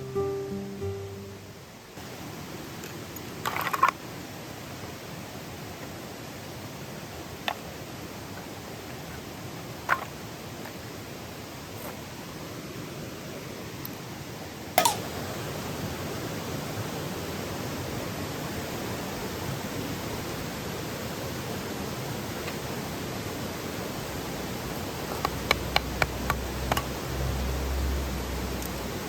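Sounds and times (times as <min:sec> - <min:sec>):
river water rushing: 0:01.7 - 0:29.0.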